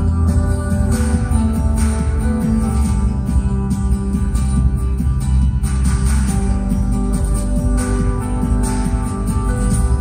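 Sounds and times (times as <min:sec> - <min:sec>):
heavy bass: 0:00.0 - 0:10.0
strummed acoustic guitar: 0:00.0 - 0:10.0.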